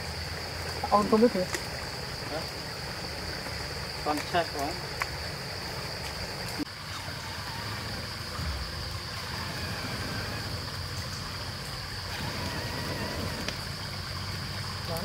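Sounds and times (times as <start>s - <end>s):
high-pitched insect drone: 0.0s - 15.0s
water trickling and gurgling: 0.0s - 15.0s.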